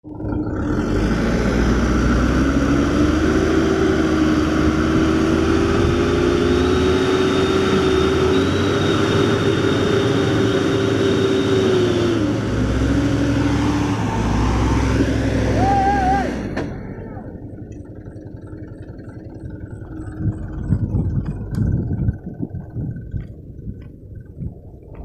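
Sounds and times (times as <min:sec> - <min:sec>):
truck engine at high revs: 0:00.0 - 0:25.0.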